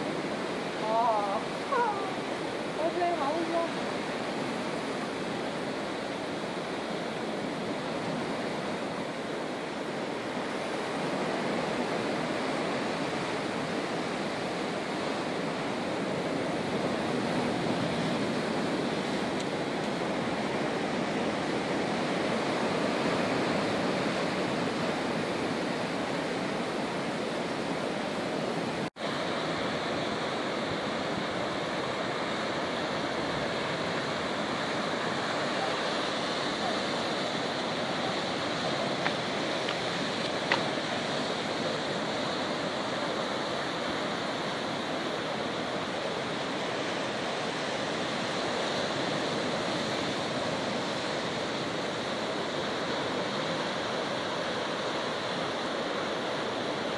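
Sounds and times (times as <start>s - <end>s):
ocean surf breaking on rocks: 0.0s - 56.9s.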